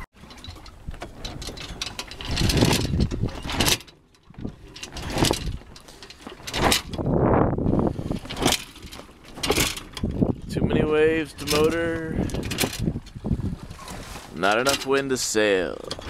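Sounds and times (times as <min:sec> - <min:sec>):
sail flapping and rustling: 0:00.0 - 0:16.0.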